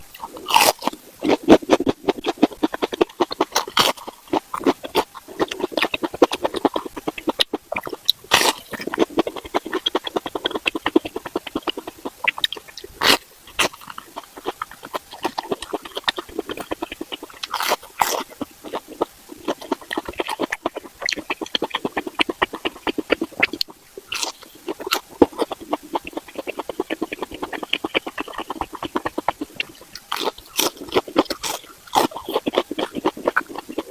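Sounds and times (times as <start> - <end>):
chewing and mouth smacking: 0.1 - 33.9.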